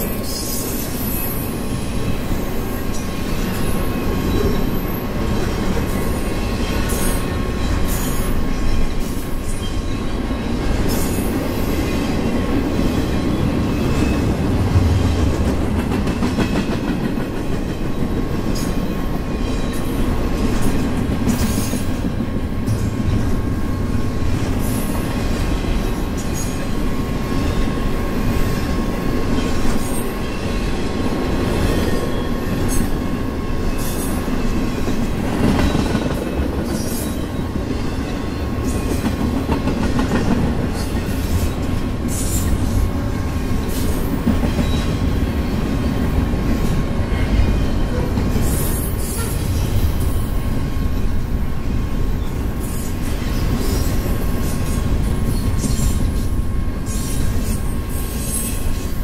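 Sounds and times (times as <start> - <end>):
clicks and clanks of train cars: 0.0 - 59.0
train wheels rumbling on rail: 0.0 - 59.0.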